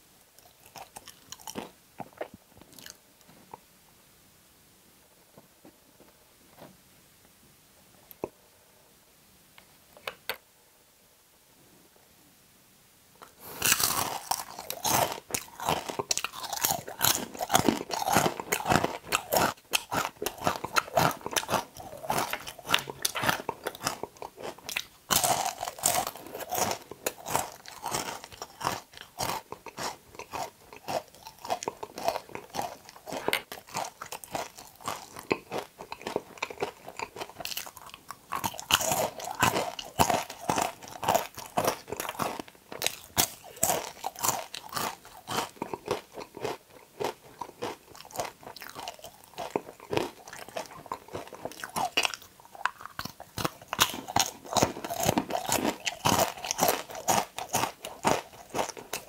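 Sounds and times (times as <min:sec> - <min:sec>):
crunching and chewing: 0:00.3 - 0:03.6, 0:13.2 - 0:59.0.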